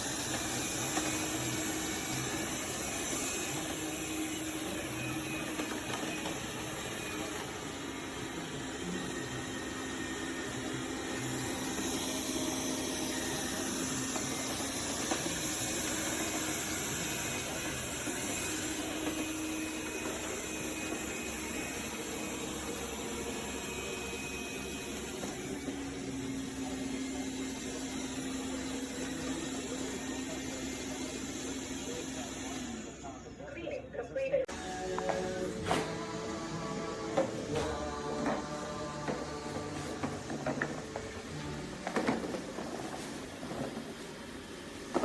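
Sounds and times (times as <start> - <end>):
robot vacuum motor: 0.0 - 33.2, 34.5 - 45.0.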